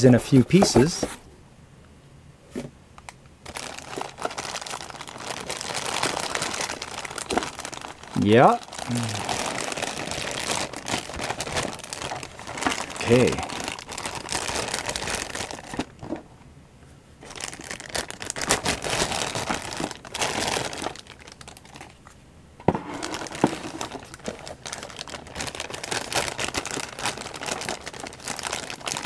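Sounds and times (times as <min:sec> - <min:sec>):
plastic bags crinkling: 0:03.4 - 0:16.3, 0:17.2 - 0:22.1, 0:22.8 - 0:29.0.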